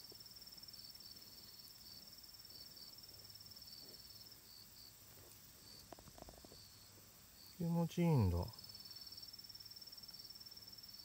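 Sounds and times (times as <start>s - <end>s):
high rapid insect trill: 0.2s - 11.0s
short insect chirps: 0.2s - 11.0s.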